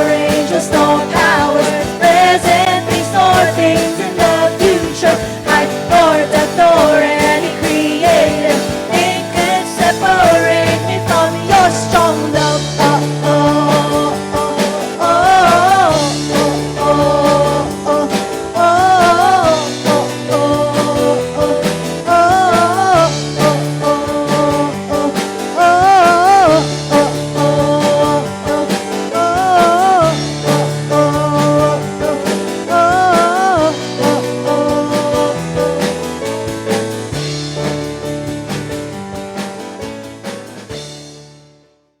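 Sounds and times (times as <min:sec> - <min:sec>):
worship band playing: 0:00.0 - 0:41.2.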